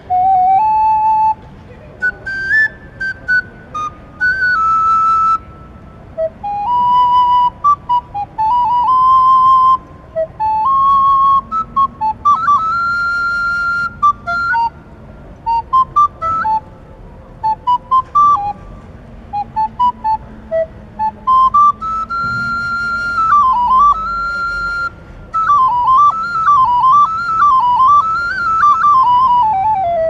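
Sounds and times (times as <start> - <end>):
solo recorder melody: 0.0 - 30.0.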